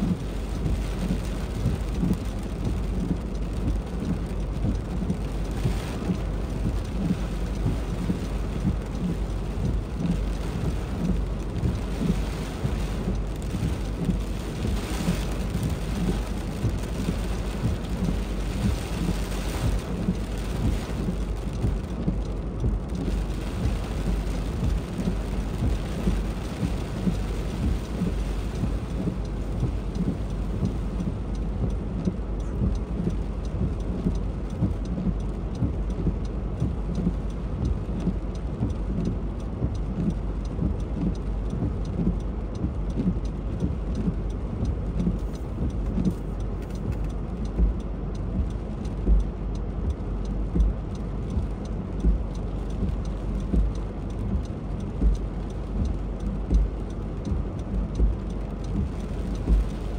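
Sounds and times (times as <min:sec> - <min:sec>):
heavy rain falling: 0:00.0 - 0:59.9
raindrop ticks: 0:00.0 - 0:59.9.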